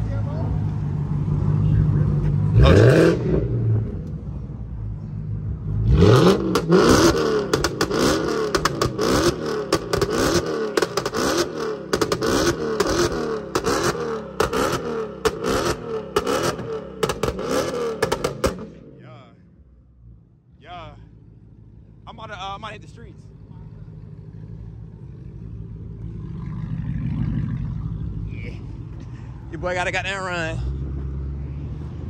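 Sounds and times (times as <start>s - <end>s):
car engine revving: 0.0s - 32.0s
exhaust crackles: 1.6s - 31.5s.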